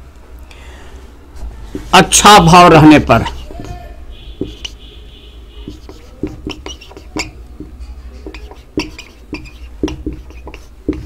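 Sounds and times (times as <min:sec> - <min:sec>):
marker squeaking on whiteboard: 0:01.7 - 0:11.0.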